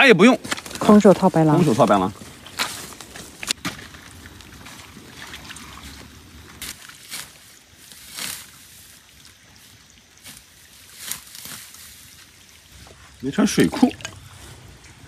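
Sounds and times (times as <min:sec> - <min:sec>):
steady background hiss: 0:00.0 - 0:15.0
scrape and water splash: 0:00.5 - 0:15.0.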